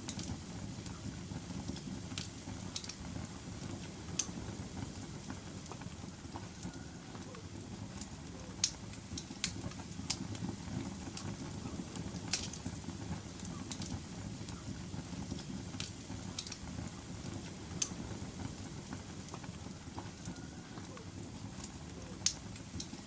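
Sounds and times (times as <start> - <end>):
fire crackling and popping: 0.0 - 23.0
low rush of flames: 0.0 - 23.0.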